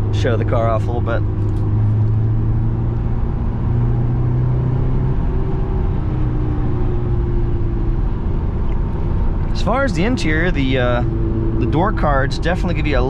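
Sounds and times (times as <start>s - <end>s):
car engine cruising: 0.0s - 13.0s
tyre and road noise: 0.0s - 13.0s.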